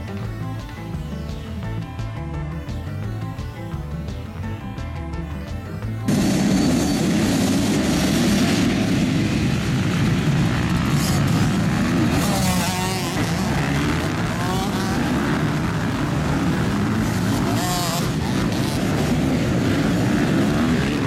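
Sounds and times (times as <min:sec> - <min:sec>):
many motocross engines revving: 0:00.0 - 0:21.0.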